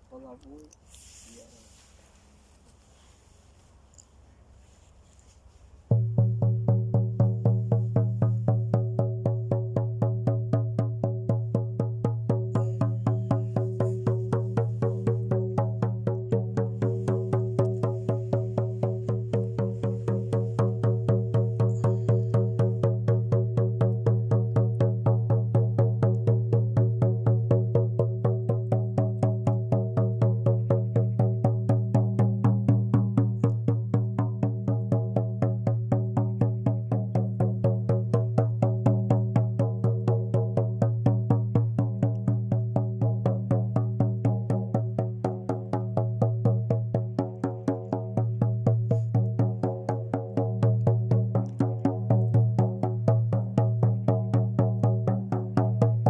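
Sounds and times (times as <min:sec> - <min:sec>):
frame drum beaten steadily: 0:05.9 - 0:56.0.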